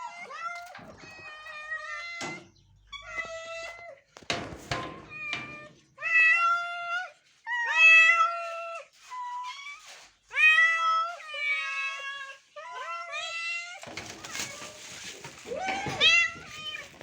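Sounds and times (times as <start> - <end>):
cats meowing: 0.0 - 17.0.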